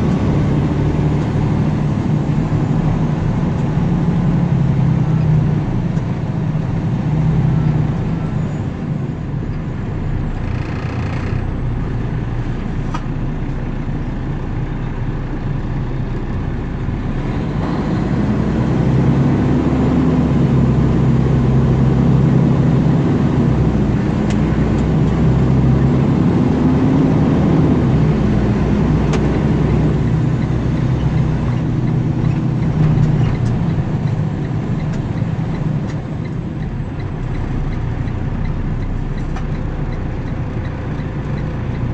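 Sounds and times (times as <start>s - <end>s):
road noise: 0.0s - 41.9s
vehicle engine: 0.0s - 41.9s.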